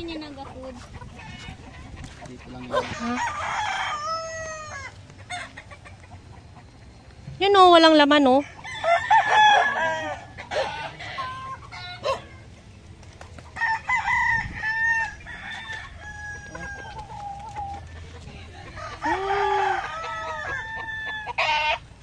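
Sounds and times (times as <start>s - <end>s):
roosters crowing: 1.0s - 7.0s, 8.0s - 22.0s.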